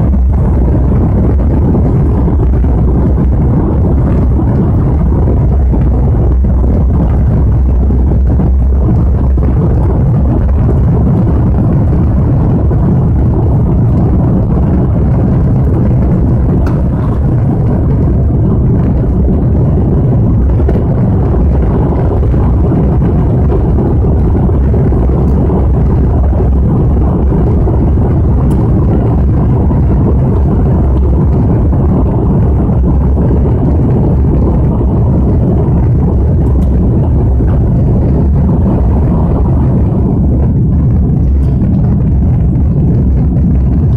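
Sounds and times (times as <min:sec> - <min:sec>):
jet engines rumbling: 0:00.0 - 0:43.9
rushing air: 0:00.0 - 0:43.9.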